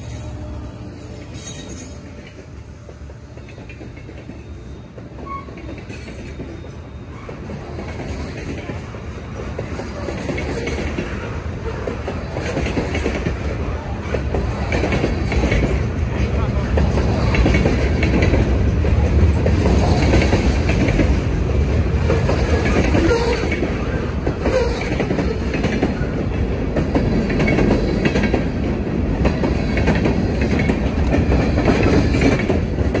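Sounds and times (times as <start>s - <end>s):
steel wheels rumbling on rail: 0.0s - 33.0s
wheels clicking over rail joints: 0.0s - 33.0s.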